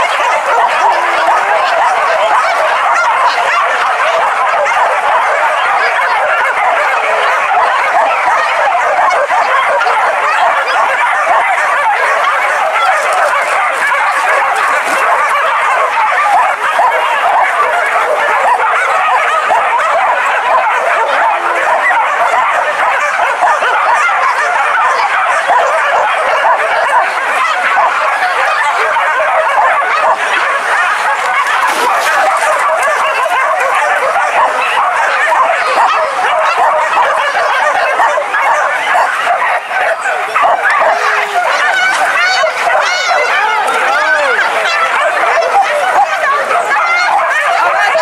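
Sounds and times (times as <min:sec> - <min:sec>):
dogs barking and yelping: 0:00.0 - 0:48.0.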